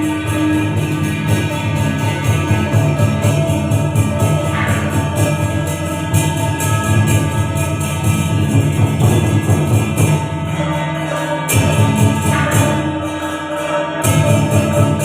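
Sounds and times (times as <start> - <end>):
cymbal crashes: 0.0 - 15.0
drums beating: 0.0 - 15.0
sustained melody: 0.0 - 15.0.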